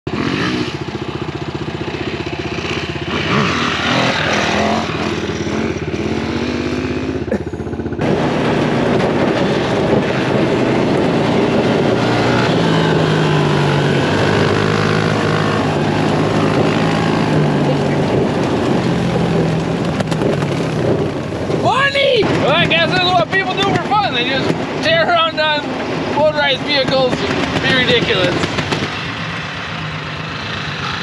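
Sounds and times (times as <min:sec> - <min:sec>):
small engine running: 0:00.1 - 0:21.4, 0:22.4 - 0:31.0.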